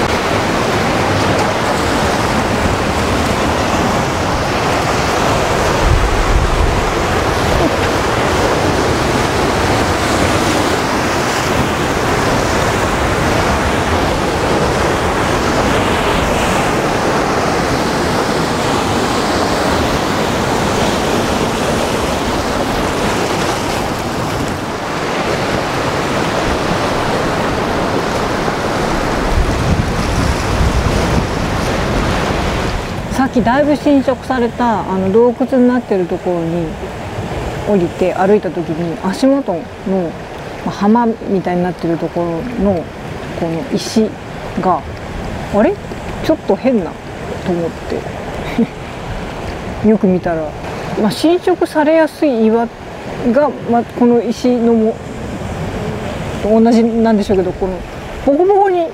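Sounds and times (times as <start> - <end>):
surf breaking on rocky shore: 0.0 - 58.9
wind gusts on microphone: 0.0 - 58.9.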